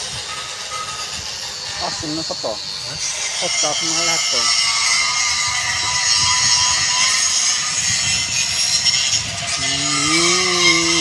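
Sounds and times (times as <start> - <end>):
machine hiss with whining tones: 0.0 - 11.0.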